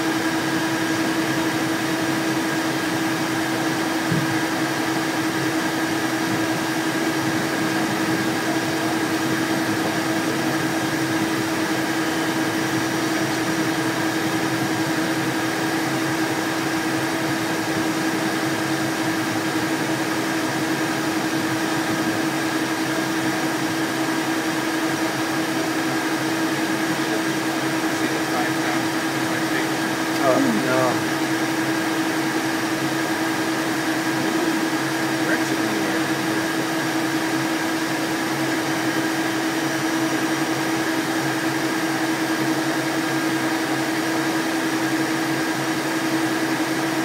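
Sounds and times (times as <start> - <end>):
cabin air system: 0.0 - 42.7
jet engines humming: 0.0 - 46.7.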